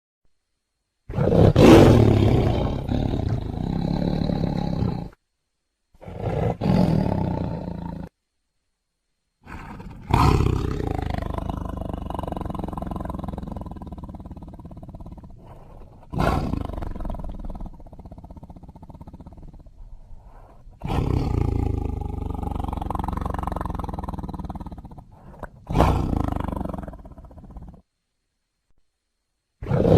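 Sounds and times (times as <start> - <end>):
tiger roaring: 1.1 - 5.2, 6.0 - 8.1, 9.4 - 27.8, 29.6 - 29.9.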